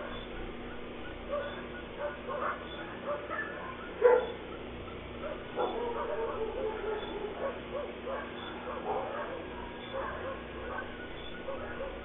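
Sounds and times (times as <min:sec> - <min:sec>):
dog barking and yelping: 0:01.2 - 0:12.0.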